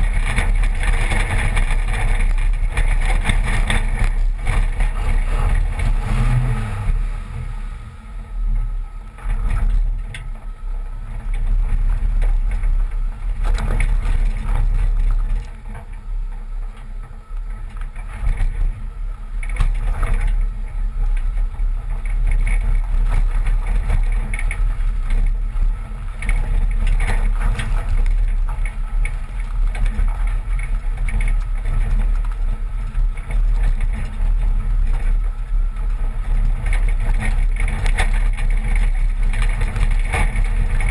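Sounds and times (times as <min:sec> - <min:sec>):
truck engine low rumble: 0:00.0 - 0:40.9
wheels clunking on rocks: 0:00.0 - 0:40.9.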